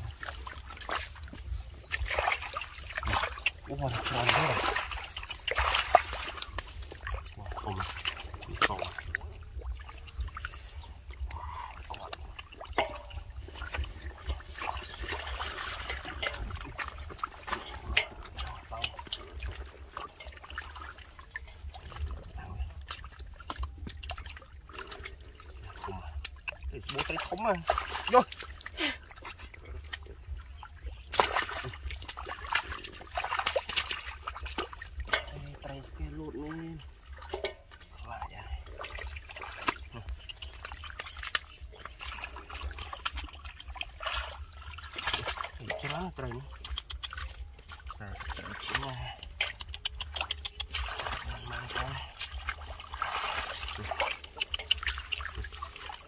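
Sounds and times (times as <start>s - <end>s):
hands splashing in muddy water: 0.0s - 36.0s, 38.6s - 56.0s
water dripping: 0.0s - 56.0s.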